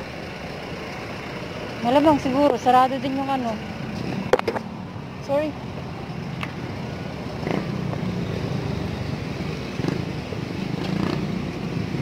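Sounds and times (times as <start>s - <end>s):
low street noise rumble: 0.0s - 12.0s.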